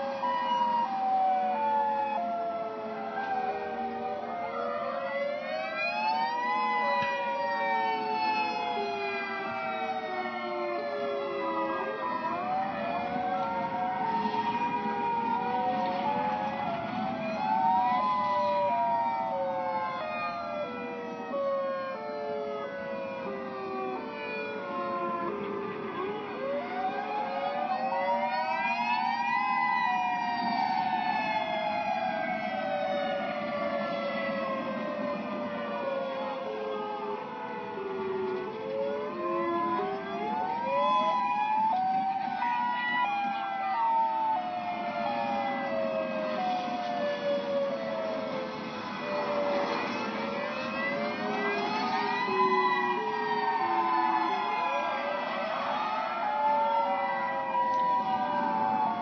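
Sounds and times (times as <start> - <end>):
lower siren tones: 0.0 - 59.0
tornado warning siren wailing: 0.0 - 59.0.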